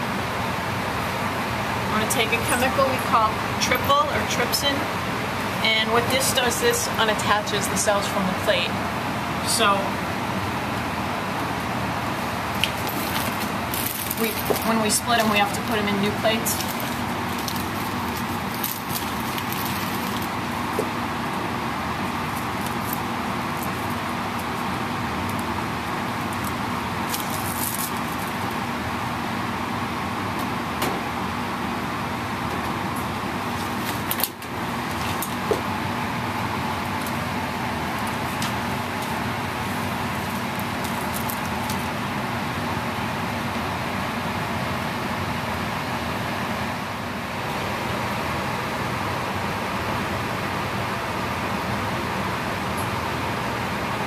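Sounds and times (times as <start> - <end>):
cabinet blower airflow hum: 0.0 - 54.0.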